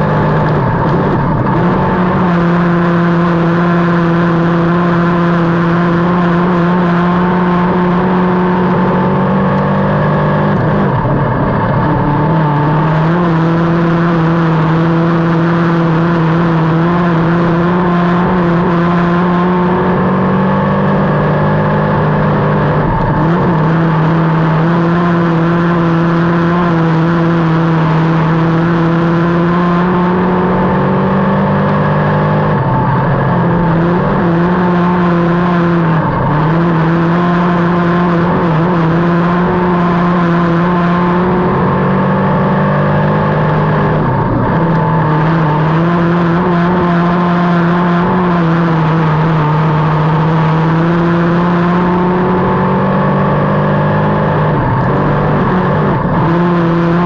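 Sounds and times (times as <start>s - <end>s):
race car engine running hard: 0.0s - 57.0s.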